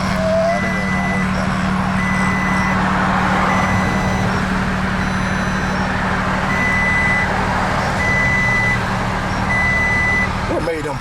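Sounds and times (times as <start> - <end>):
reversing alarm beeps: 0.0 - 10.8
truck engine droning: 0.0 - 11.0.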